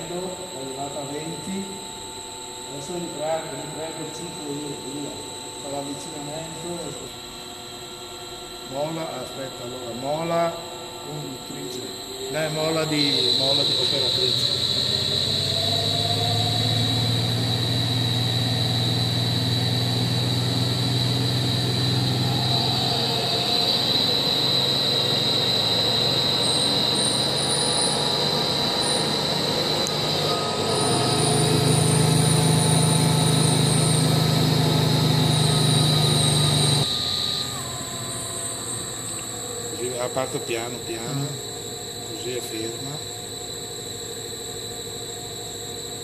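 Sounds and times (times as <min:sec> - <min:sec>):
grinder high whine: 0:00.0 - 0:46.0
low machine hum: 0:00.0 - 0:46.0.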